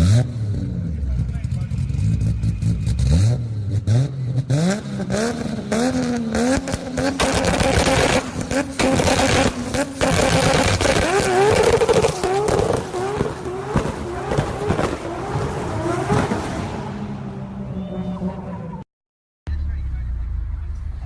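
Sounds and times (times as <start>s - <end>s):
sports car engine revving: 0.0s - 18.8s.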